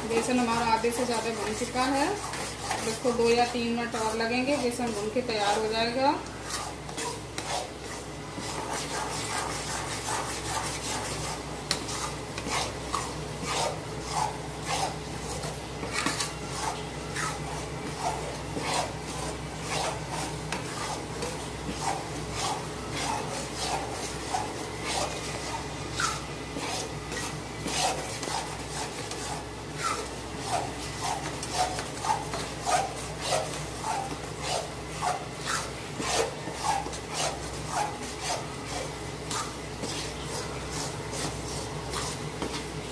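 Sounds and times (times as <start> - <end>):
metal spatula scraping a pan: 0.0 - 42.8.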